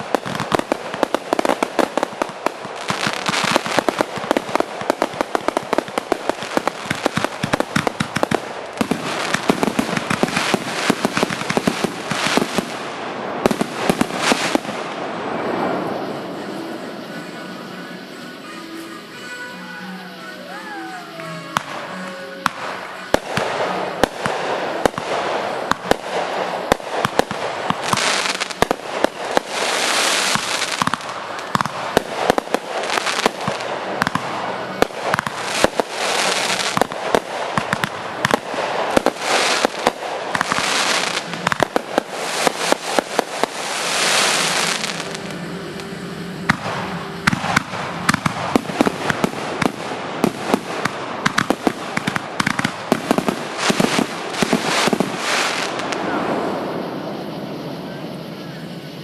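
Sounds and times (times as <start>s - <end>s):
fireworks crackling and popping: 0.0s - 59.0s
fireworks hiss: 0.0s - 59.0s.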